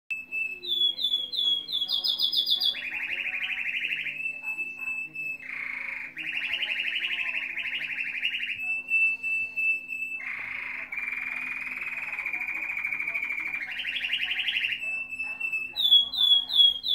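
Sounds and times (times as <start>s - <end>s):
canary singing trills: 0.1s - 16.9s.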